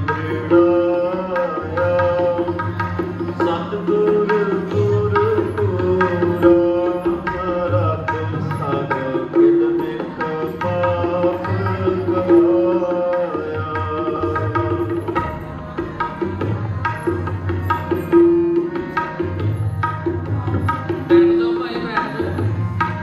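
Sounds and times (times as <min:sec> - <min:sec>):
tabla drumming: 0:00.0 - 0:23.0.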